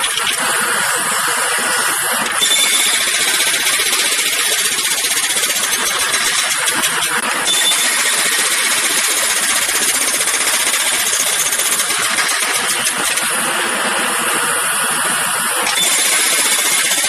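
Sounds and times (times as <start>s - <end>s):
jackhammer hammering: 0.0s - 14.8s, 15.4s - 17.0s.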